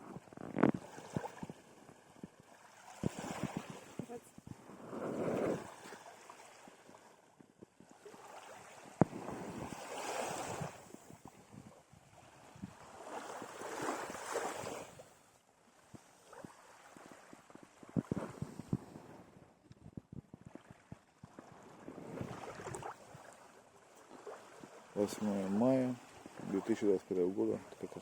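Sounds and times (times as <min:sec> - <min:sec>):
wind on microphone: 0:00.0 - 0:06.1, 0:06.8 - 0:15.2, 0:15.9 - 0:23.4, 0:24.6 - 0:28.0
small waves washing on beach: 0:00.0 - 0:28.0.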